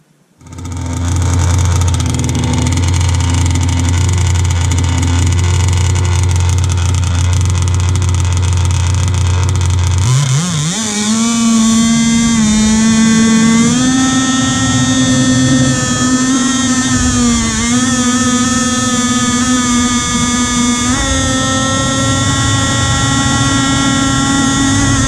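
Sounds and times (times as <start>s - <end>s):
two-stroke engine revving: 0.4s - 25.0s.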